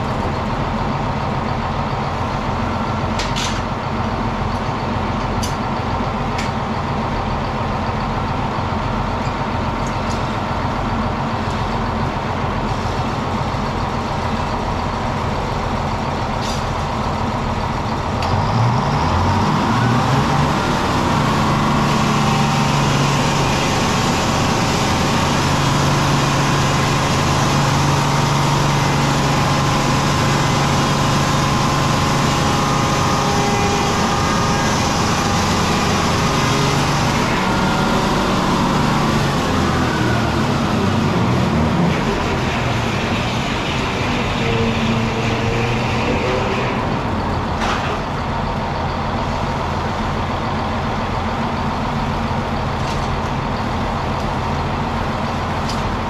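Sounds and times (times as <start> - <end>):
sawmill machinery engine drone: 0.0 - 56.0.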